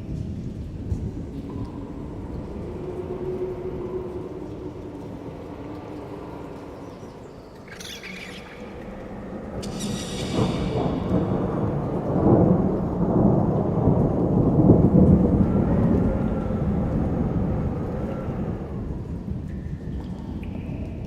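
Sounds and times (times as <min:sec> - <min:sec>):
deep thunder-like rumble: 0:00.0 - 0:19.5.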